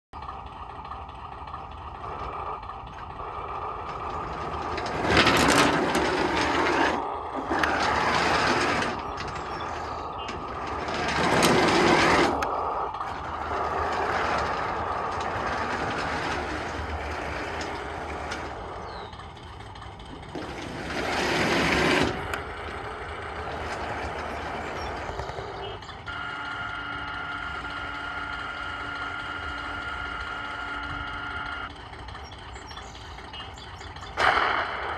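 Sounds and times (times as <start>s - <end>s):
model tank motor whirring: 0.2s - 34.9s.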